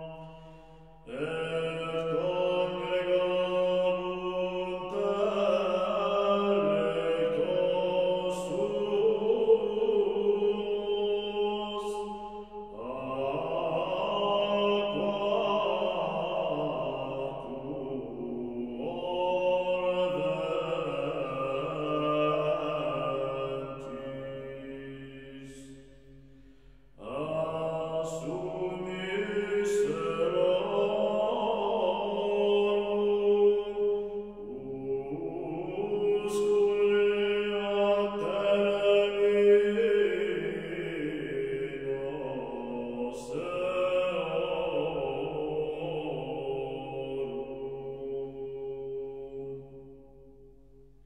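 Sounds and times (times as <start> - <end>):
slow chanted vocal music: 0.0 - 51.0.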